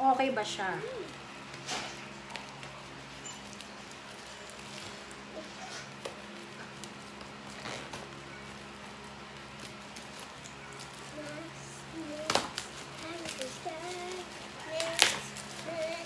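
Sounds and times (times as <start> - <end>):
steady low hum: 0.0 - 16.0
plastic wrap rustling: 0.1 - 16.0
plastic wrap crinkling: 0.3 - 16.0.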